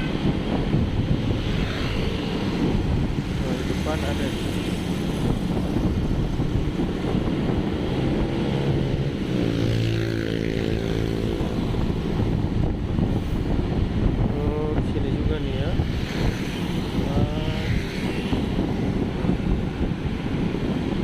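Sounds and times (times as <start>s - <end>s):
road and engine noise: 0.0s - 21.0s
wind buffeting microphone: 0.0s - 21.0s.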